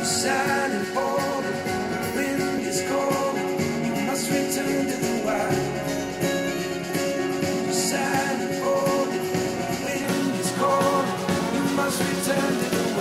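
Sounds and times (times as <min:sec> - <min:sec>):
rock song through speakers: 0:00.0 - 0:13.0.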